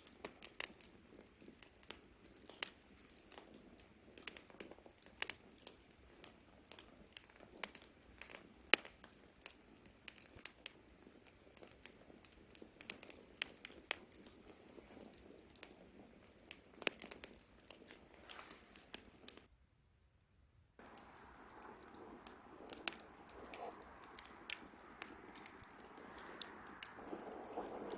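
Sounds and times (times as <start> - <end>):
campfire crackling and popping: 0.0 - 19.5, 20.8 - 27.9.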